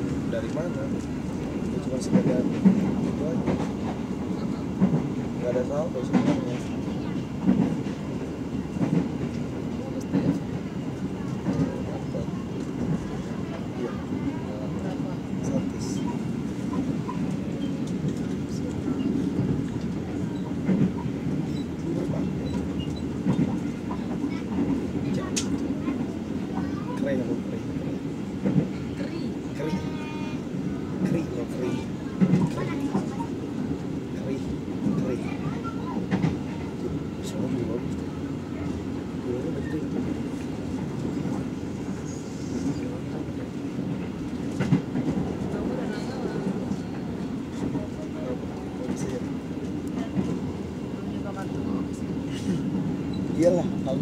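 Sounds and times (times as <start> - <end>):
train rumbling and rattling: 0.0 - 54.0.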